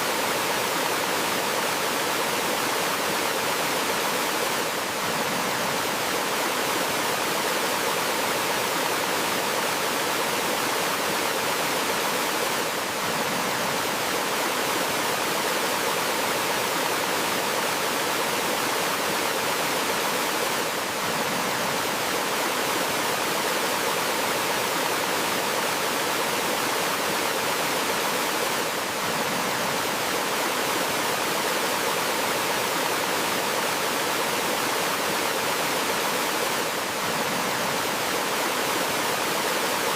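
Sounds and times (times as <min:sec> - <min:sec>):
waterfall and stream over rocks: 0:00.0 - 0:39.9.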